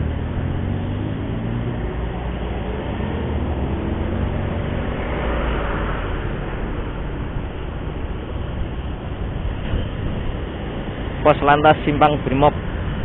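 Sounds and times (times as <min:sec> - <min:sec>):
low engine hum: 0:00.0 - 0:13.0
vehicle road noise: 0:00.0 - 0:13.0.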